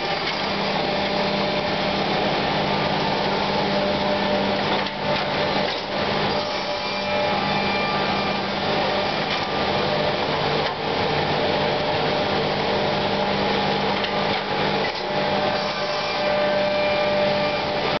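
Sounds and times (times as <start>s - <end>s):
woodworking machine motor whine: 0.0s - 18.0s.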